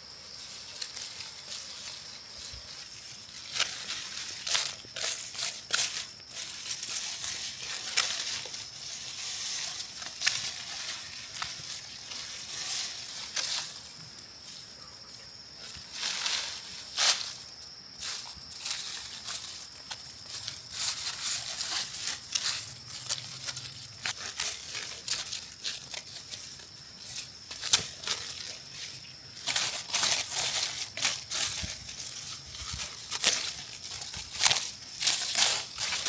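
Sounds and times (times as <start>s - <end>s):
high insect drone: 0.0s - 36.0s
dry straw crunching and rustling: 0.3s - 14.4s, 15.6s - 36.0s.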